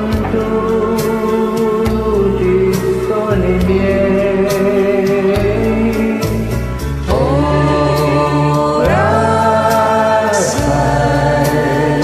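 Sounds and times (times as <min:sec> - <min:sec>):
people singing karaoke: 0:00.0 - 0:12.0
slow ballad backing track: 0:00.0 - 0:12.0.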